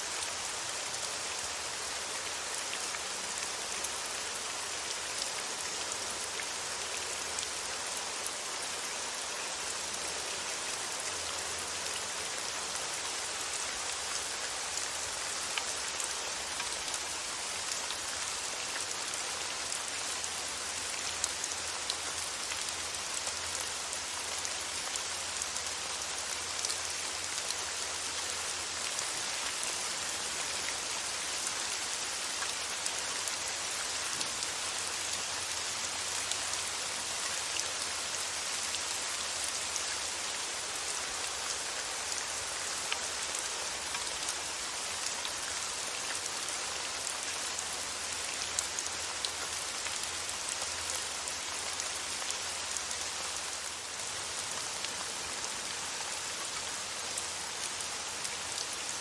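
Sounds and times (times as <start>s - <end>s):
rainfall hiss: 0.0s - 59.0s.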